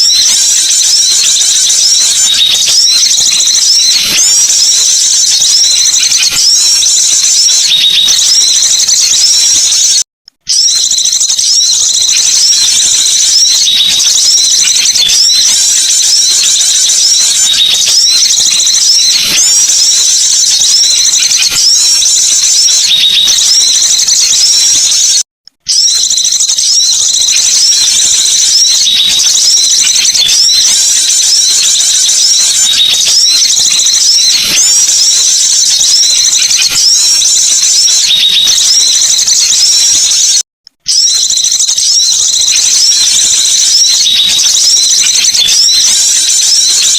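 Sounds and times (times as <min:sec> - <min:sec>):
repeating bird call note: 0:00.0 - 0:46.9
songbirds twittering: 0:00.0 - 0:46.9.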